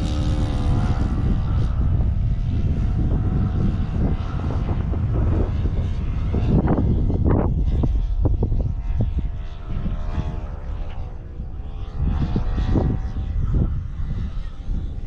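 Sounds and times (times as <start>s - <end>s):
heavy low rumble: 0.0s - 15.0s
model plane engine buzzing: 0.0s - 15.0s.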